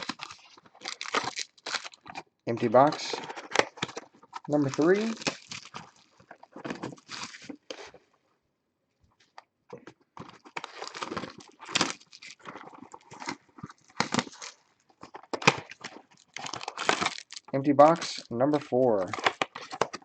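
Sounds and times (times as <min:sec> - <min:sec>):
cardboard box rustling and tearing: 0:00.0 - 0:07.8, 0:10.2 - 0:18.0, 0:19.1 - 0:20.0.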